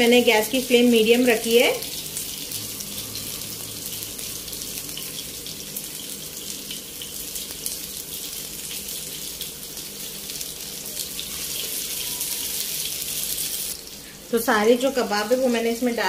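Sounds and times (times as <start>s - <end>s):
meat sizzling in oil with crackles: 0.0s - 16.0s.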